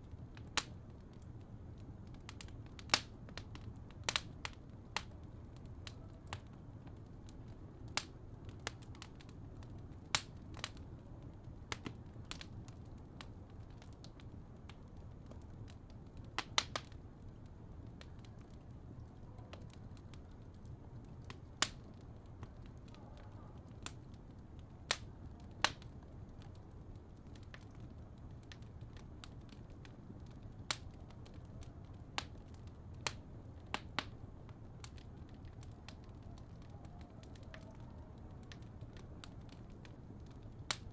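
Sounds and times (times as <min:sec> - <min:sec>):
fireplace crackling and popping: 0:00.0 - 0:40.9.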